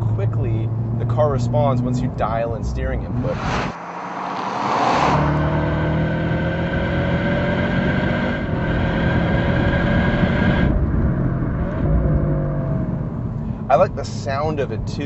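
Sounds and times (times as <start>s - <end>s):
car exhaust droning: 0.0s - 15.0s.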